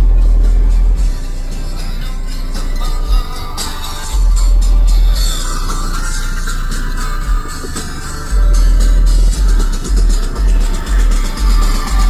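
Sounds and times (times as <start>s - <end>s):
bass-heavy music from car speakers: 0.0s - 12.0s.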